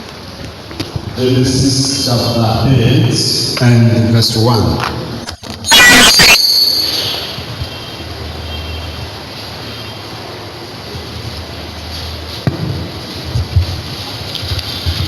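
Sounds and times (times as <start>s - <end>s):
background hiss: 0.6s - 15.0s.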